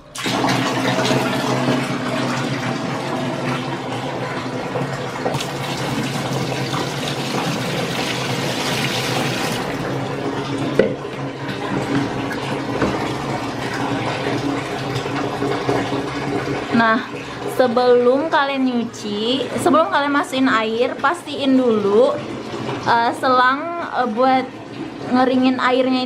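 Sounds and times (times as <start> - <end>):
tap water filling bucket: 0.0 - 26.0.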